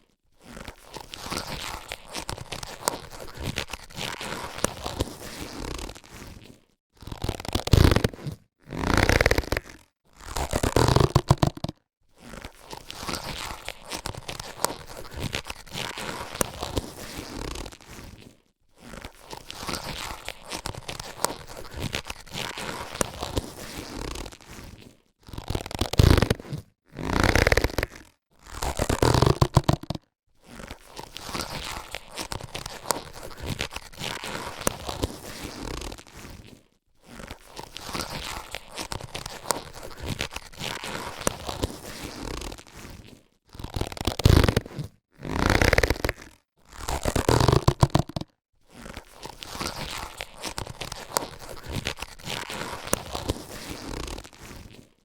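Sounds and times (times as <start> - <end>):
latex gloves crackling and stretching: 0.0 - 55.0.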